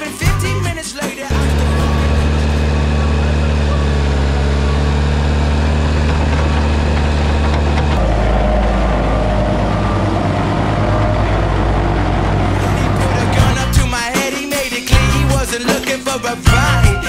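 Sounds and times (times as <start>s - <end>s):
diesel paving machine running: 1.3s - 17.0s.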